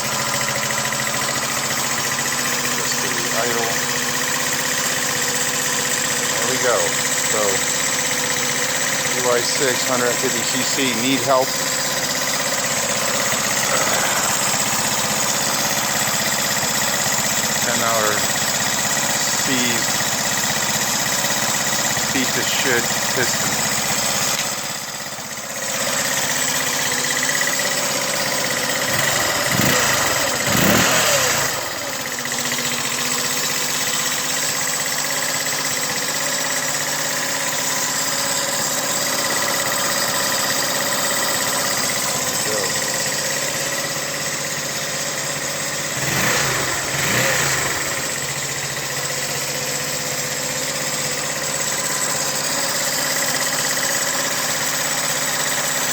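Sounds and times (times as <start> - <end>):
scooter engine idling: 0.0 - 55.9.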